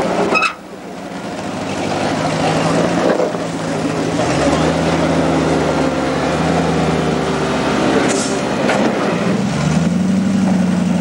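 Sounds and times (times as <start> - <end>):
off-road car engine running: 0.0 - 11.0.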